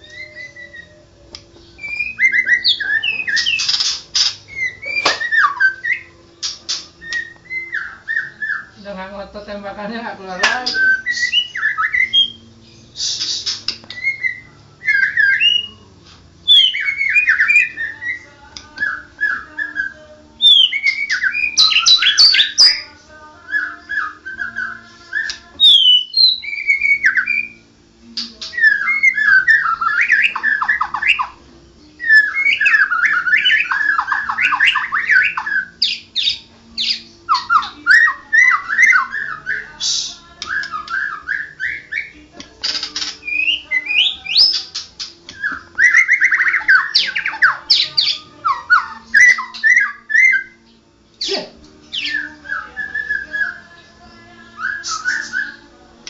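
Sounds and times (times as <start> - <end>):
songbird singing whistled phrases: 0.0 - 8.9, 10.3 - 22.9, 23.5 - 27.6, 28.2 - 55.8.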